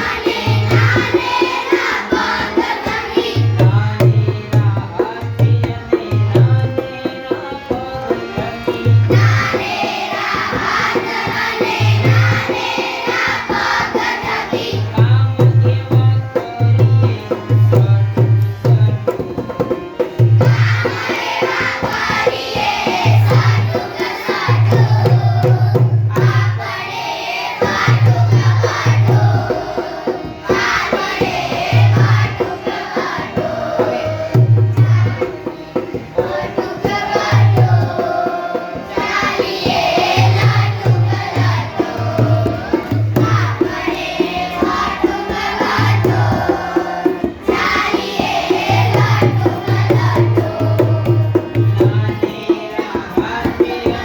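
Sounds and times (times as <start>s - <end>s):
hand drum beats: 0.0s - 7.1s, 8.4s - 54.0s
children's song singing: 0.0s - 54.0s.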